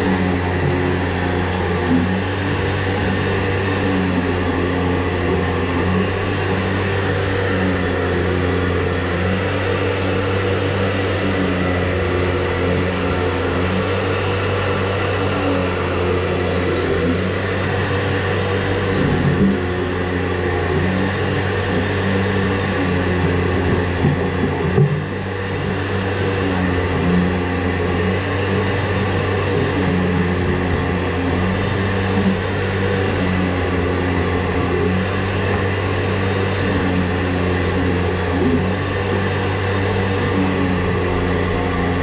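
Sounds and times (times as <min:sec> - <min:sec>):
machine motor humming: 0:00.0 - 0:42.0.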